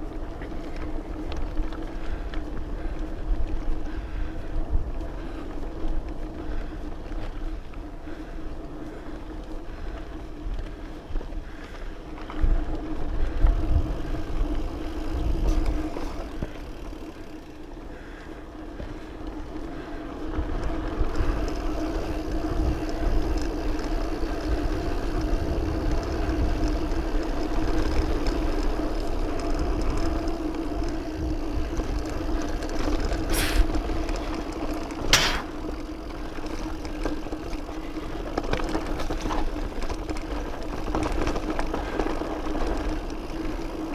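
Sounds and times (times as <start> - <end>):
bike tyre rumble on dirt trail: 0.0 - 43.9.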